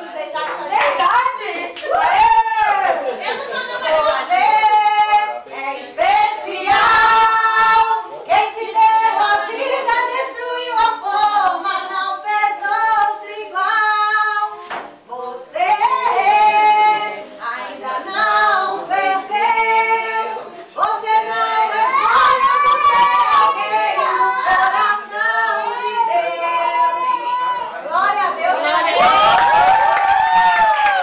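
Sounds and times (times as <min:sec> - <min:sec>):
group singing in unison: 0:03.0 - 0:28.9.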